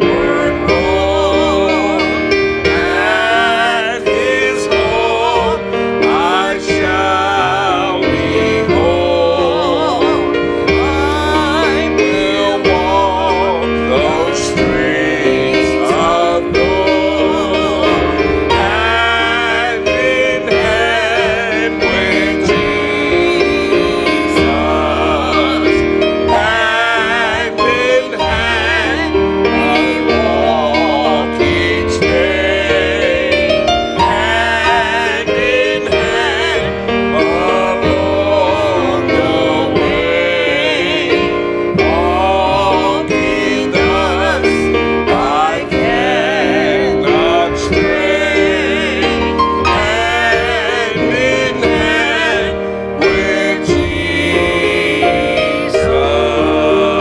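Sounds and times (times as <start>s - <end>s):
grand piano: 0.0s - 57.0s
man singing gospel: 0.0s - 57.0s.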